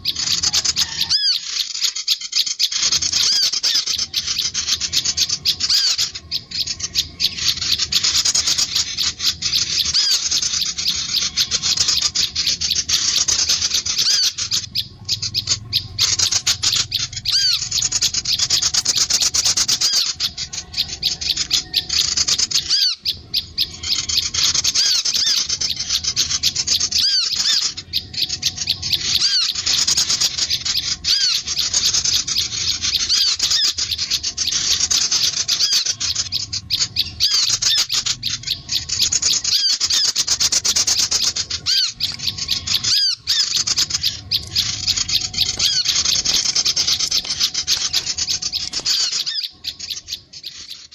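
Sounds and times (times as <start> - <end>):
birds chattering and chirping: 0.0 - 50.9.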